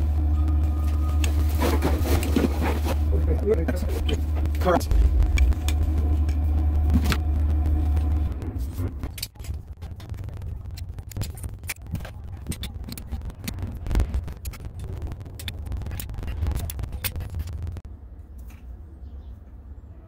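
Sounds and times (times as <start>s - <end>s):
faint hum: 0.0s - 20.0s
low mechanical rumble: 0.0s - 20.0s.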